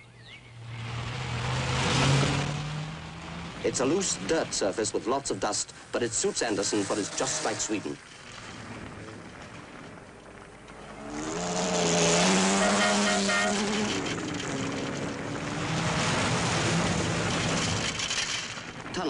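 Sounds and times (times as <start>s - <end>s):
rally car engines at high revs: 0.4s - 18.9s.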